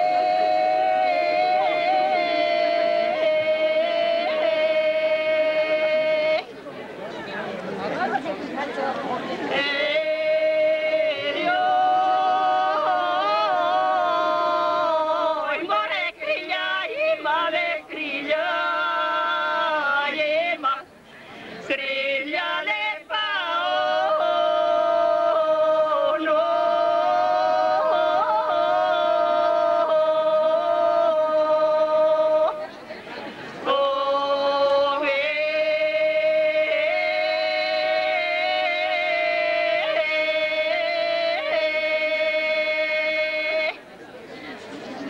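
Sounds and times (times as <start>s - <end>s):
women singing unaccompanied: 0.0s - 6.5s, 9.5s - 21.0s, 21.6s - 33.0s, 33.6s - 43.9s.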